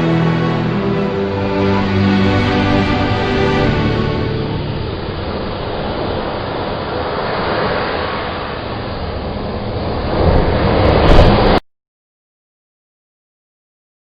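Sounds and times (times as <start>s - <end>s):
loud rushing and rumbling noise: 0.0s - 11.6s.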